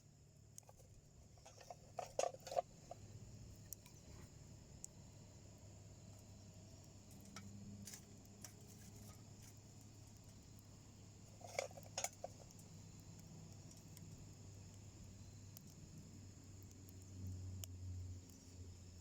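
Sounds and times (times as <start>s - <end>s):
wood crackling in a stove: 0.0s - 19.0s.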